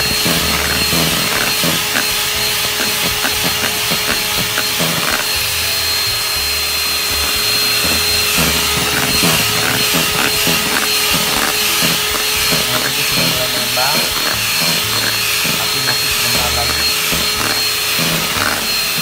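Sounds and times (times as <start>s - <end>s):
beaters ticking on bowl: 0.0s - 19.0s
hand mixer motor whine: 0.0s - 19.0s.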